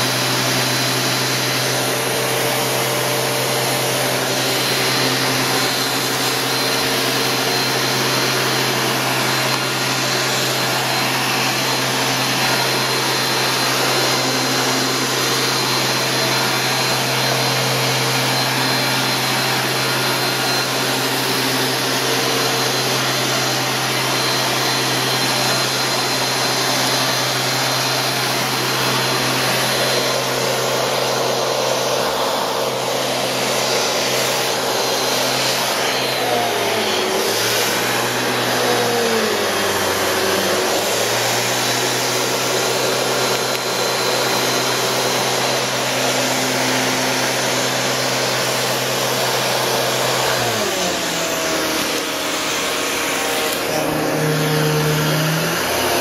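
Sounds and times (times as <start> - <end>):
vacuum cleaner running: 0.0 - 56.0
vacuum nozzle on carpet: 0.0 - 56.0.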